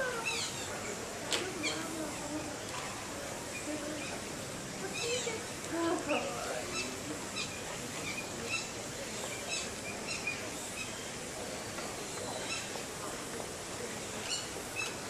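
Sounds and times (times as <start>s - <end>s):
steady outdoor hum: 0.0s - 15.0s.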